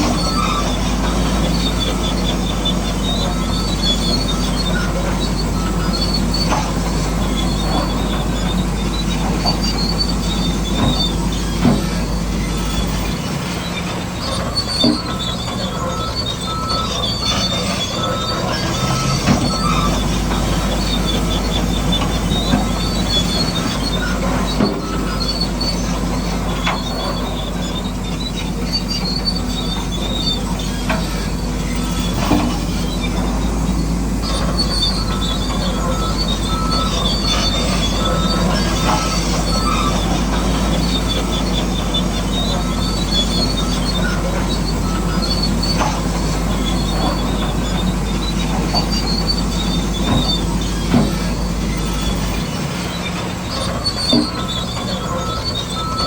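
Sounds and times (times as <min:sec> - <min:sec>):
crawler tracks squealing and clanking: 0:00.0 - 0:56.0
diesel engine running: 0:00.0 - 0:56.0.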